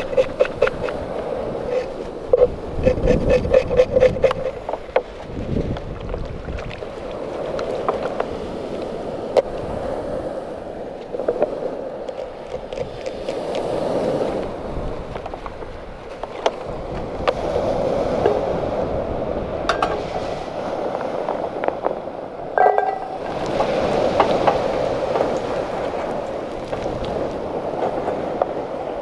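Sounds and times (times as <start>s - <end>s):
sea surf: 0.0s - 29.0s.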